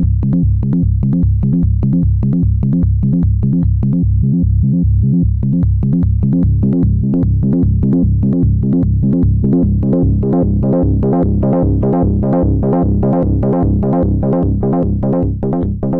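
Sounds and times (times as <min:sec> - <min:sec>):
synthesizer bass line: 0:00.0 - 0:15.9.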